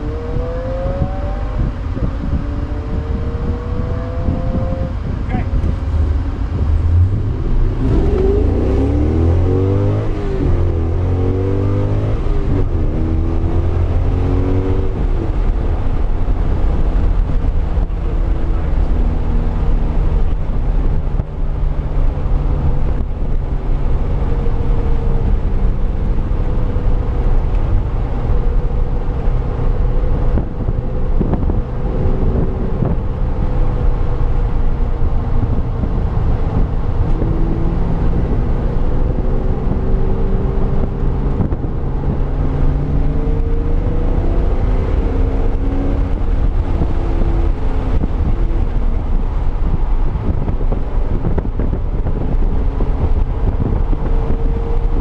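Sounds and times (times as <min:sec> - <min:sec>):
car engine running hard: 0:00.0 - 0:55.0
wind noise on microphone: 0:00.0 - 0:55.0.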